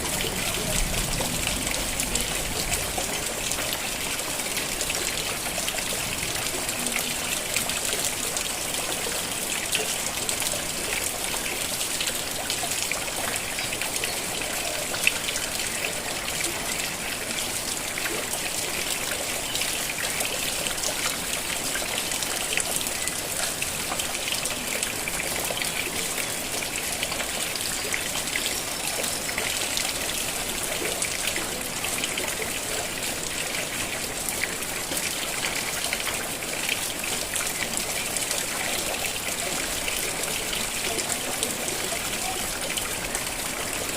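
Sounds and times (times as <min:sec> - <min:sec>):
steady rain falling: 0:00.0 - 0:43.9
water trickling and running off: 0:00.0 - 0:43.9.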